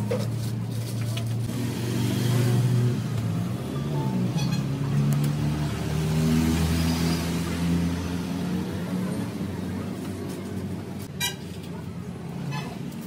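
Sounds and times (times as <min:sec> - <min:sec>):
motor vehicle hum: 0:00.0 - 0:13.0.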